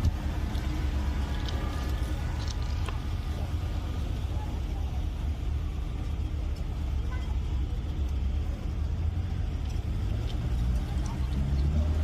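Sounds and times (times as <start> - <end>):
heavy engine rumbling: 0.0 - 12.0.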